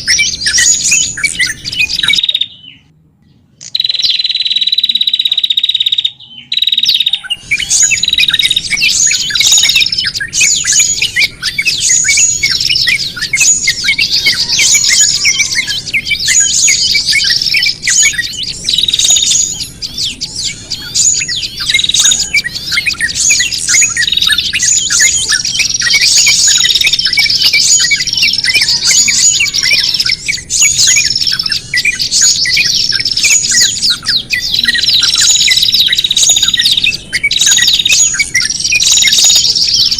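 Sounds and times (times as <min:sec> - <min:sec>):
songbirds chirping in alarm: 0:00.0 - 0:39.9.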